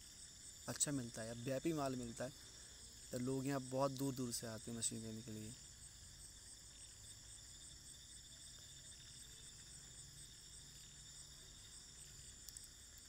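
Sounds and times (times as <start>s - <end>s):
high-pitched insect chirring: 0.0s - 13.0s.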